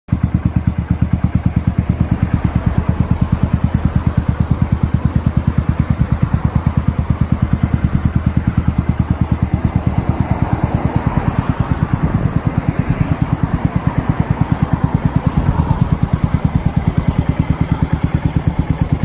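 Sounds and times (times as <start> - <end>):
single-cylinder engine idling: 0.1 - 19.0.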